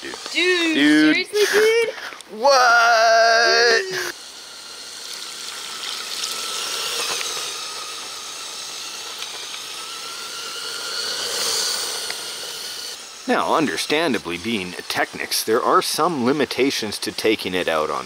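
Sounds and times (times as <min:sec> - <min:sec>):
constant hiss: 0:00.0 - 0:18.0
small electric motors whining: 0:00.0 - 0:18.0.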